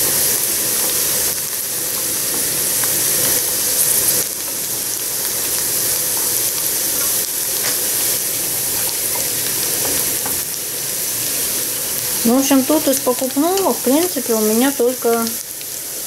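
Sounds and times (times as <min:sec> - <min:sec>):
vegetables sizzling in a frying pan: 0:00.0 - 0:16.0.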